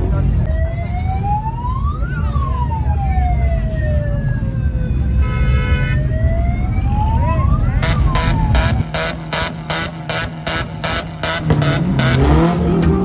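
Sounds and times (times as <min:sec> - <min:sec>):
wailing siren: 0:00.5 - 0:12.6.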